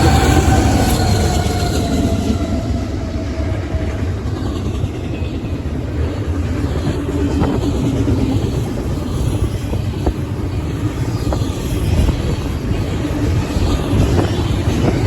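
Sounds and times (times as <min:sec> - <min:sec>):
freight train rumbling: 0:00.0 - 0:15.0
locomotive tone sliding down: 0:00.0 - 0:15.0.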